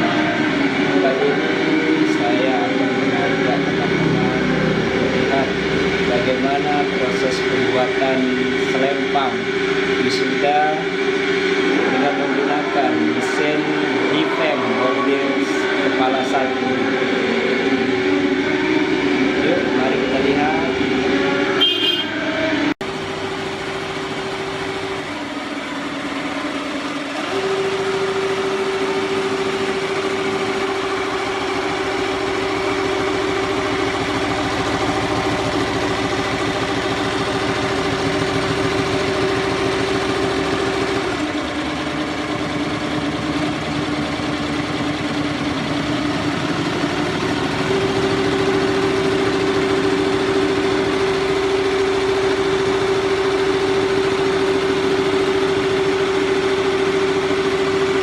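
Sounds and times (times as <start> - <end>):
embroidery machine stitching: 0.0 - 22.0, 22.8 - 58.0.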